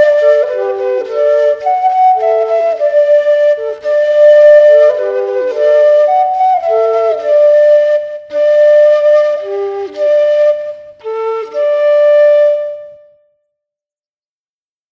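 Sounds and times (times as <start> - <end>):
bamboo flute melody: 0.0 - 13.5.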